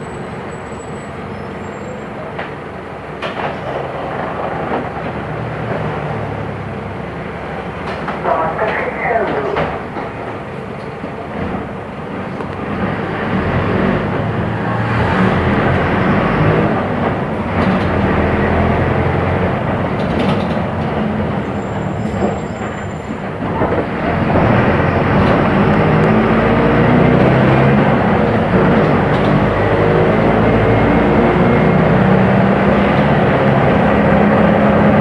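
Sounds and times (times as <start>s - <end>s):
bus engine running: 0.0s - 35.0s.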